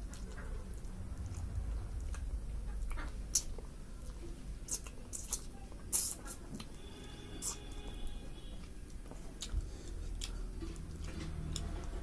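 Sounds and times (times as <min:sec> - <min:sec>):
wet chewing: 0:00.0 - 0:06.8, 0:07.4 - 0:12.0.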